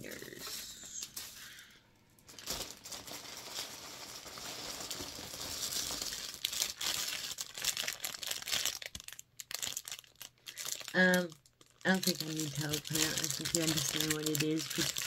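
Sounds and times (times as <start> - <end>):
plastic bag crinkling: 2.2 - 15.0.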